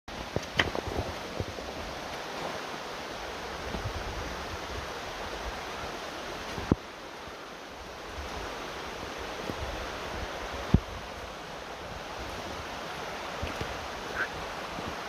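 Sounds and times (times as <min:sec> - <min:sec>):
rushing outdoor ambience: 0:00.1 - 0:15.0.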